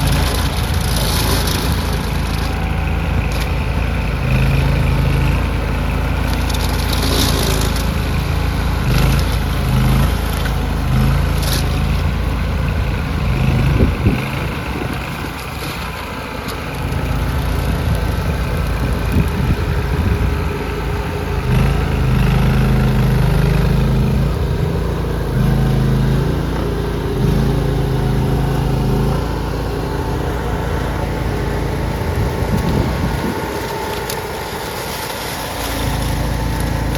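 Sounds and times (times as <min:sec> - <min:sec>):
loader engine running: 0:00.0 - 0:36.9.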